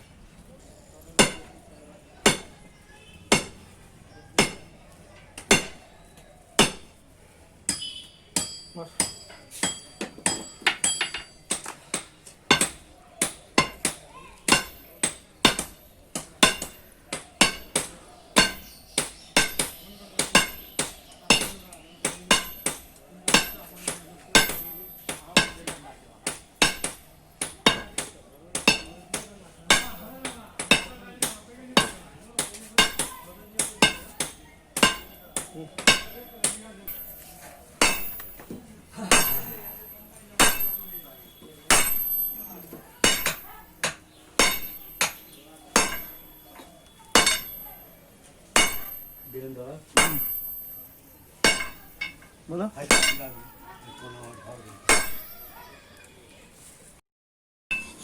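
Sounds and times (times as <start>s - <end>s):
hammer striking metal: 1.2s - 1.6s, 2.2s - 2.6s, 3.3s - 3.6s, 4.4s - 4.7s, 5.4s - 5.8s, 6.6s - 6.9s, 7.7s - 53.6s, 54.9s - 55.6s, 57.7s - 58.0s.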